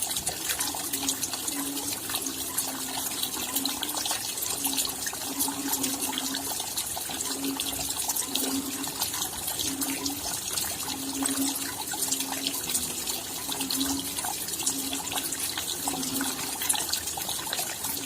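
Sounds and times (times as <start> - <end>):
steady rain patter: 0.0 - 18.0.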